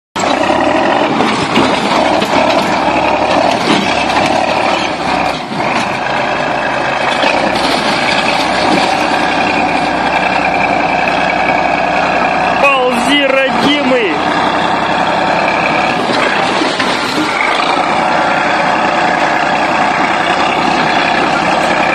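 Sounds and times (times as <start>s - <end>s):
bulldozer diesel engine running: 0.2s - 21.9s.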